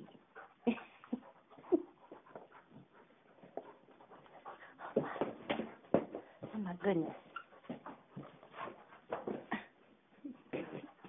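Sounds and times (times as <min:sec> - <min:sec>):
dog panting: 0:00.0 - 0:09.9.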